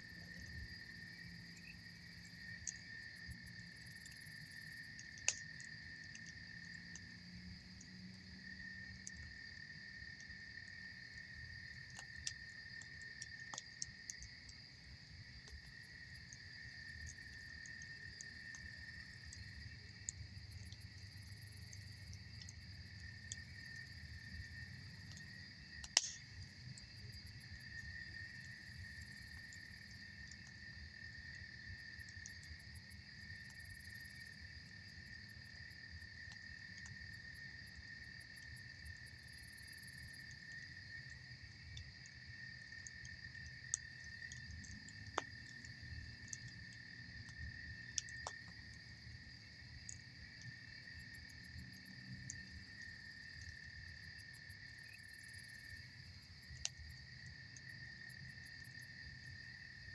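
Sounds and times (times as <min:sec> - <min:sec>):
crickets chirping: 0:00.0 - 0:59.9
campfire crackling: 0:00.4 - 0:55.0.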